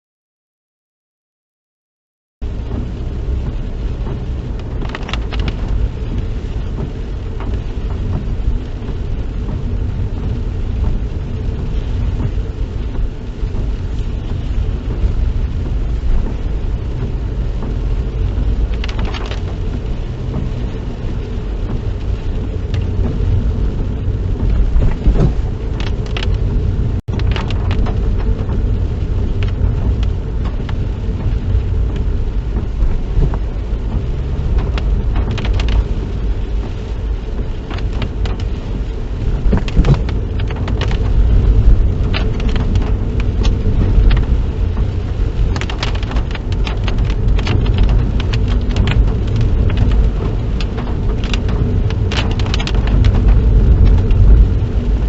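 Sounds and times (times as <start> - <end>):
car engine and tyres rumbling: 2.4 - 55.0
tyres swishing on wet road: 2.4 - 55.0.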